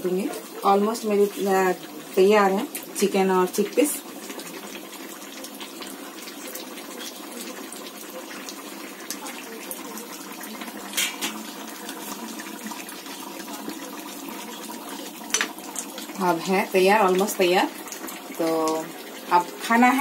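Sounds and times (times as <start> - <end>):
curry simmering hiss and bubble: 0.0 - 20.0.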